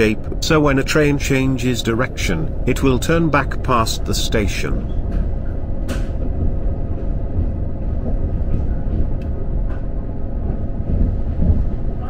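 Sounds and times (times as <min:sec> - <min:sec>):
electric train rumbling: 0:00.0 - 0:12.0
faint steady hum: 0:00.0 - 0:12.0.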